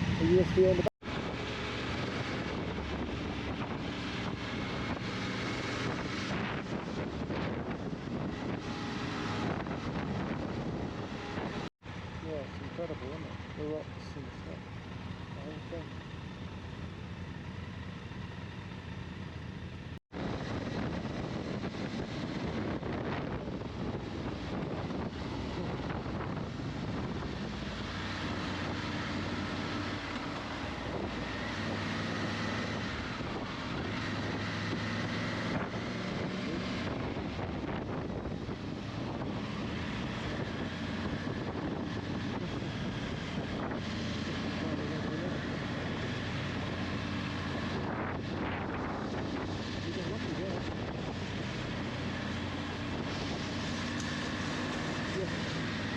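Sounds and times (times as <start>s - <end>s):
wind rushing over microphone: 0.0s - 11.7s, 20.1s - 55.9s
motorcycle engine running: 0.0s - 55.9s.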